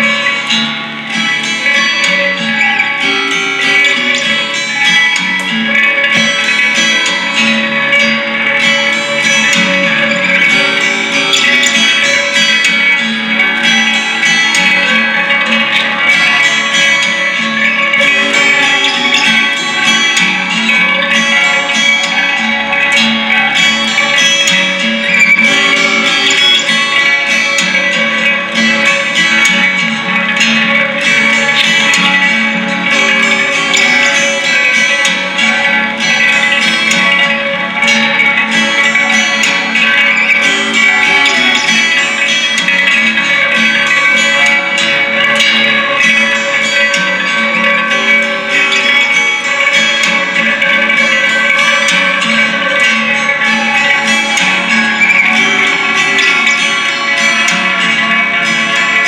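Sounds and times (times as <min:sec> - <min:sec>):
guitar plucked and strummed: 0:00.0 - 0:59.0.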